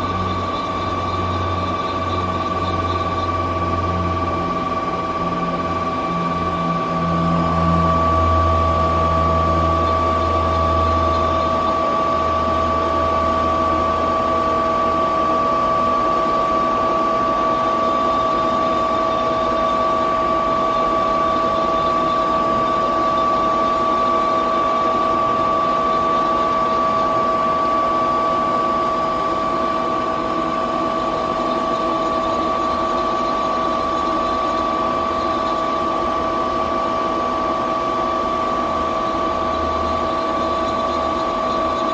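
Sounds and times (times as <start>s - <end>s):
high steady whines: 0.0s - 41.9s
lathe mechanical hum: 0.0s - 41.9s.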